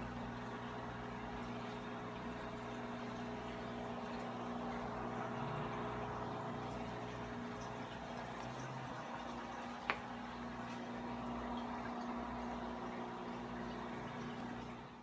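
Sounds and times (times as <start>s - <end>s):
aquarium pump motor hum: 0.0s - 15.0s
water bubbling and trickling: 0.0s - 15.0s.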